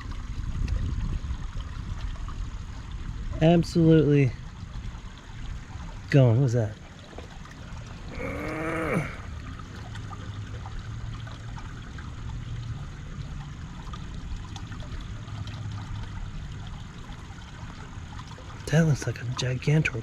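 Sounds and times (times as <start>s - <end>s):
creek water trickling: 0.0s - 20.0s.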